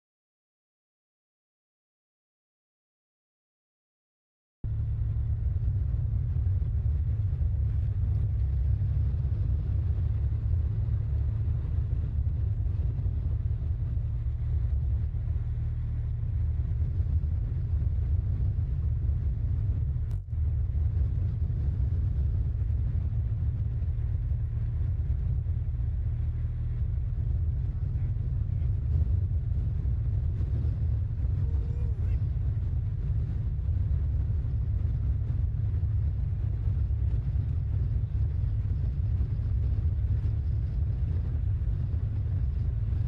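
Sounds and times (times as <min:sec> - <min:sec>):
wind and road noise rumble: 0:04.6 - 0:43.0.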